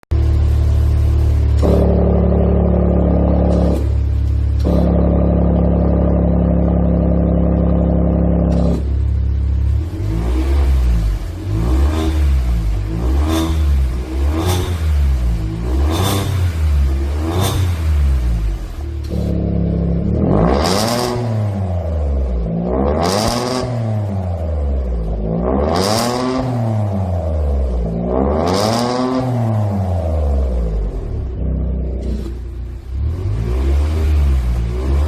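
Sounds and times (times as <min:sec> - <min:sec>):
car engine revving: 0:00.1 - 0:35.0
exhaust cracks: 0:00.1 - 0:35.0.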